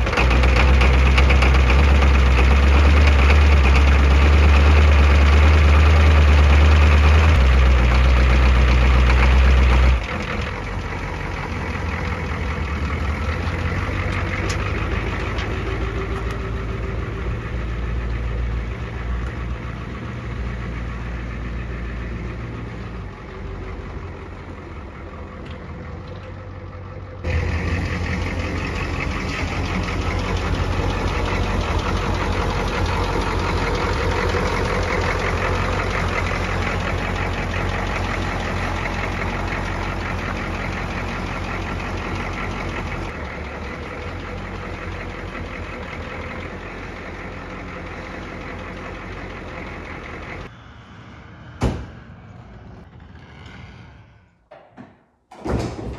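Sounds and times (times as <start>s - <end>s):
diesel truck engine running: 0.0s - 53.5s.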